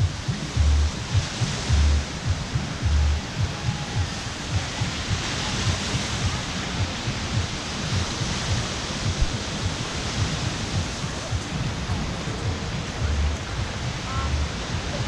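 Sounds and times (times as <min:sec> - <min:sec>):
low hum: 0:00.0 - 0:15.0
steady rushing noise: 0:00.0 - 0:15.0
wind buffeting microphone: 0:00.0 - 0:15.0.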